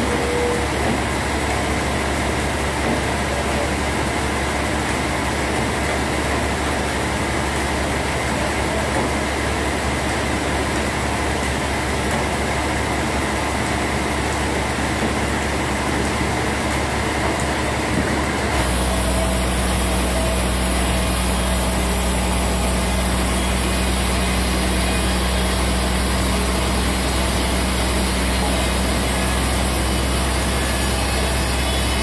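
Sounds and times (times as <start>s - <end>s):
sawmill machinery running: 0.0s - 32.0s.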